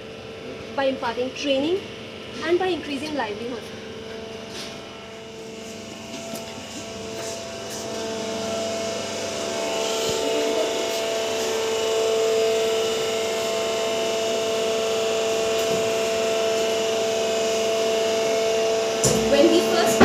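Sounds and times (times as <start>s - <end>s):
machine motor electric hum: 0.0s - 20.0s.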